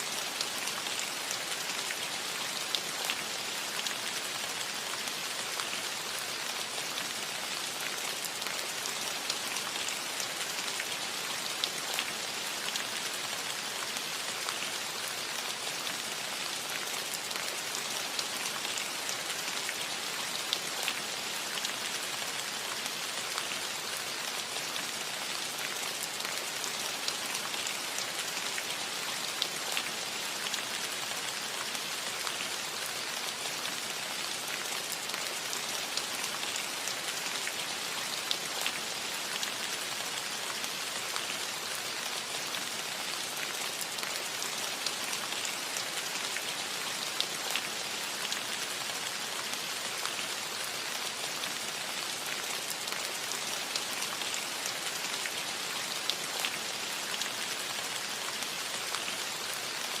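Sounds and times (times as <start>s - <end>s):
rain on a metal roof: 0.0s - 60.0s.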